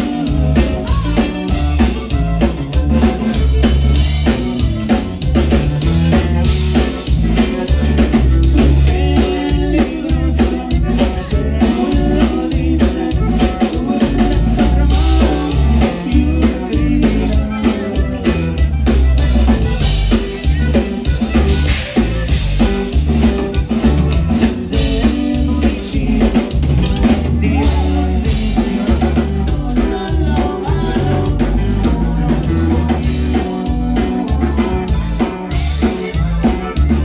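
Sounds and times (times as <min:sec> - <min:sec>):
button accordion: 0:00.0 - 0:37.0
drum kit dance beat: 0:00.0 - 0:37.0
electric bass: 0:00.0 - 0:37.0.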